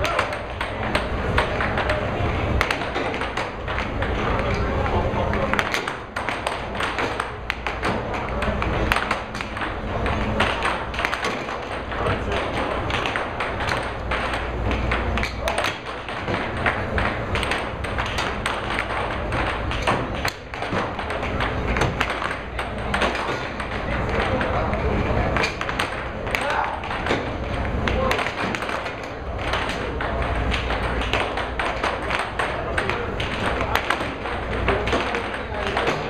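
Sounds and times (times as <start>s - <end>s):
air hockey puck clacking: 0.0s - 36.0s.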